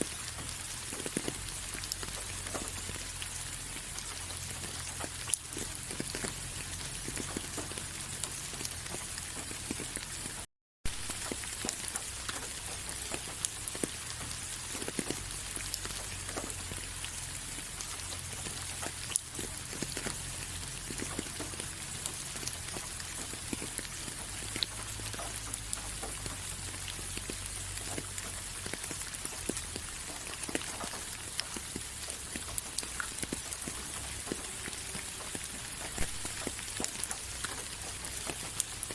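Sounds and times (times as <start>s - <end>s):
rain drops ticking on a surface: 0.0s - 38.9s
rain hiss: 0.0s - 38.9s.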